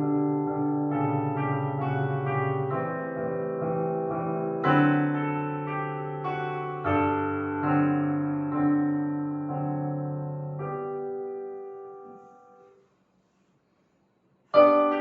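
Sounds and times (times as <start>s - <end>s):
piano playing slow chords: 0.0s - 12.9s, 14.5s - 15.0s.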